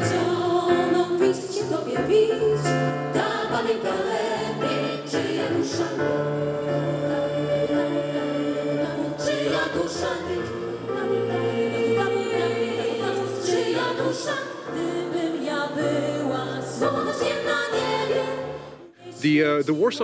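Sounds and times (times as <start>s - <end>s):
choir-like voices holding chords: 0.0s - 20.0s.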